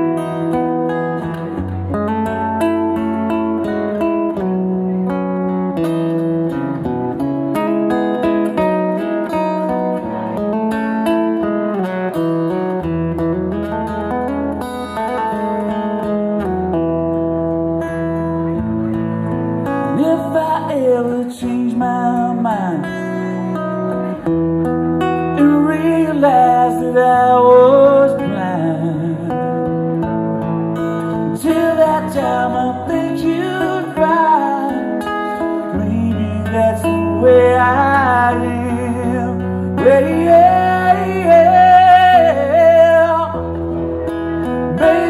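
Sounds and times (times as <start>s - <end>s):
acoustic guitar chords: 0.0s - 45.0s
sliding guitar melody: 0.0s - 45.0s.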